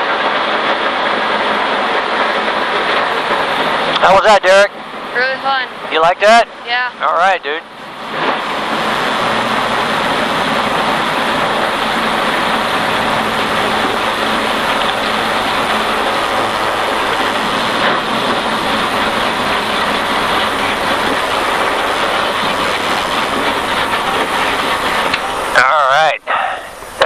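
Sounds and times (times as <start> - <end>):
race car engine and road noise: 0.0 - 27.0.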